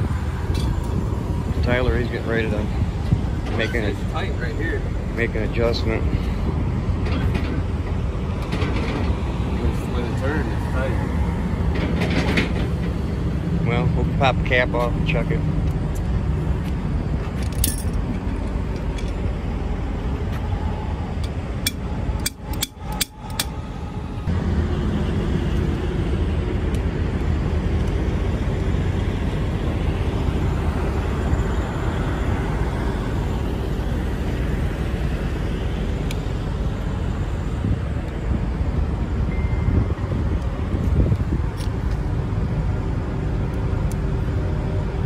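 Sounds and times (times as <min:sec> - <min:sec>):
low outdoor rumble: 0:00.0 - 0:45.0.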